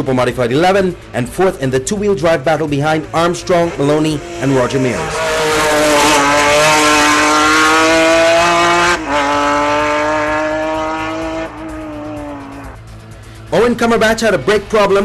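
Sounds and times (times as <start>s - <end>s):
race car engine accelerating: 0.4s - 13.7s.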